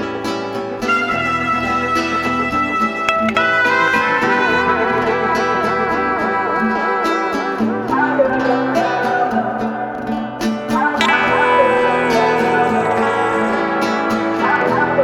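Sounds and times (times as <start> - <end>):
instrumental guitar music: 0.0 - 15.0.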